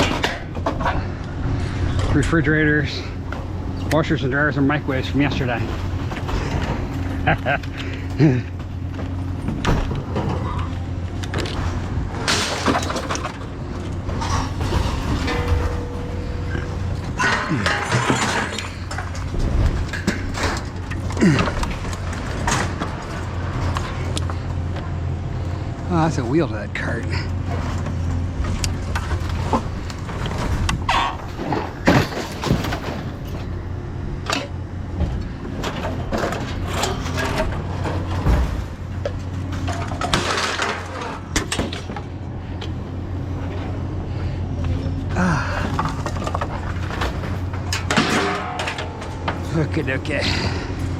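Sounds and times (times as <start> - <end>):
clattering and rattling: 0.0 - 24.5, 27.4 - 43.8, 45.4 - 50.9
vehicle humming: 0.0 - 50.9.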